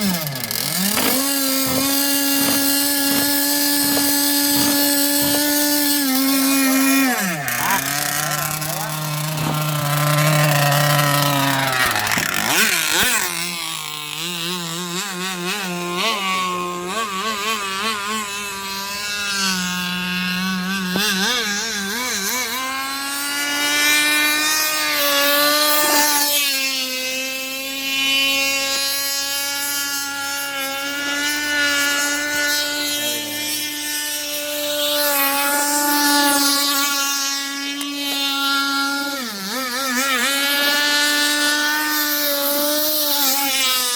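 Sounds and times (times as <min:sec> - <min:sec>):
small petrol engine running: 0:00.0 - 0:43.9.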